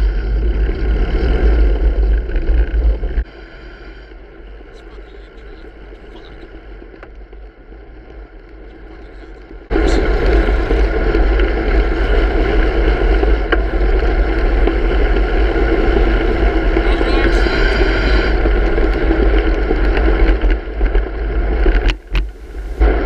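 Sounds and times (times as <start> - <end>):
road and traffic noise: 0.0 - 23.0
wind buffeting microphone: 0.0 - 23.0.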